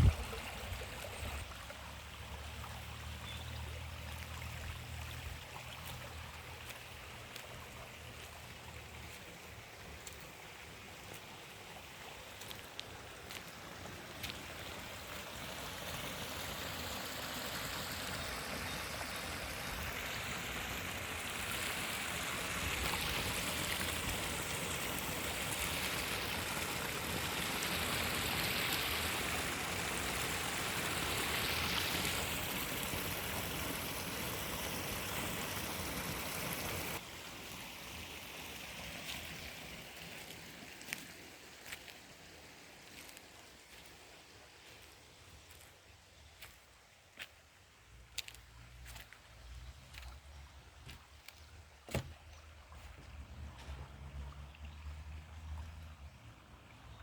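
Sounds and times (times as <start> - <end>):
water rushing: 0.0 - 45.7, 48.2 - 57.0.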